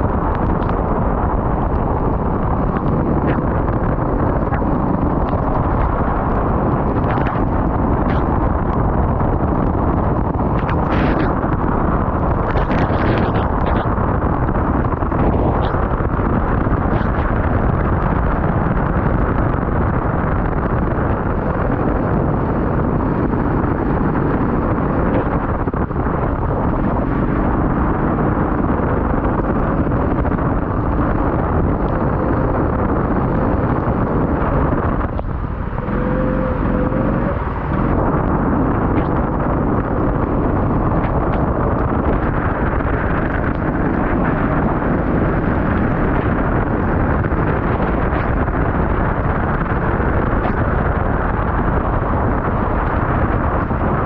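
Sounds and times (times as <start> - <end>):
off-road vehicle engine rumble: 0.0 - 54.0
wind buffeting microphone: 0.0 - 54.0.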